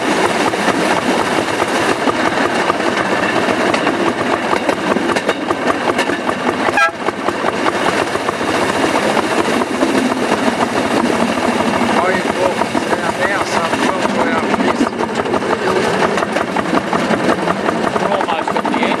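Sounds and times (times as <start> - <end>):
rail car engine and wheel clatter: 0.0 - 19.0.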